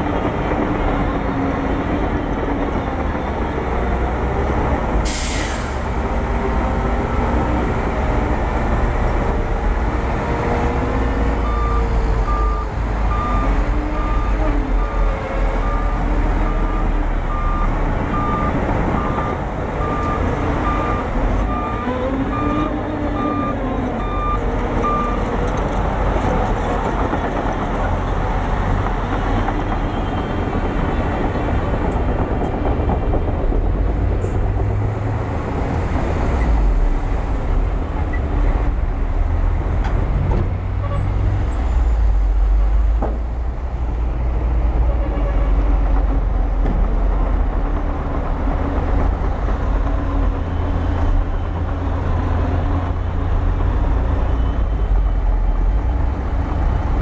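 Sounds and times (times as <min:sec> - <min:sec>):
bulldozer diesel engine running: 0:05.8 - 0:57.0.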